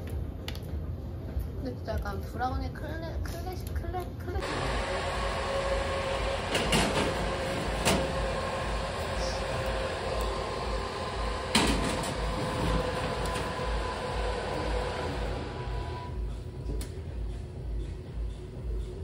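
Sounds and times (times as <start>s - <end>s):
appliance humming: 2.7s - 19.0s.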